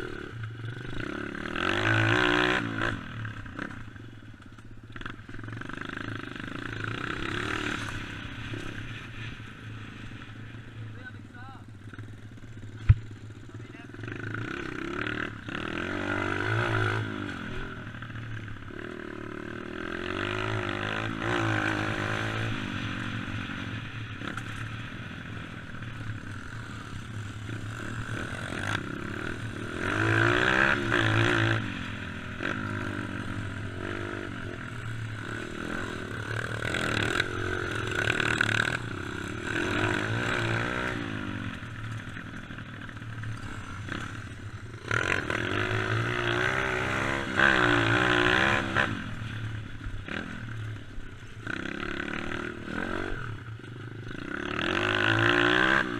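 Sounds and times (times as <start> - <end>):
dirt bike engine revving: 0.0 - 4.0, 4.9 - 55.9.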